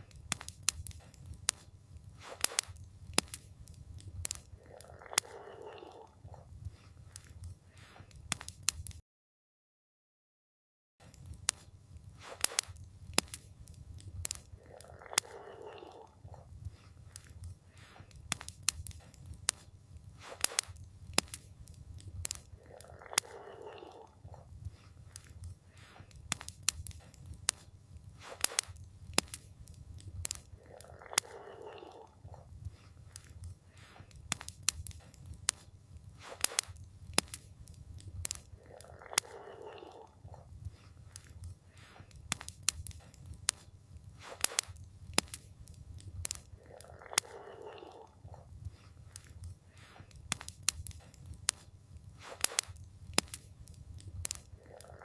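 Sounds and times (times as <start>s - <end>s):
campfire crackling: 0.0s - 9.0s, 11.0s - 55.0s.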